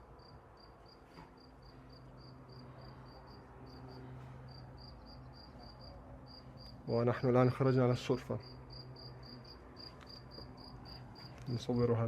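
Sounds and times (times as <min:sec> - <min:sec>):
faint low hum: 0:00.0 - 0:12.0
cricket chirping: 0:00.2 - 0:07.3, 0:08.4 - 0:11.8.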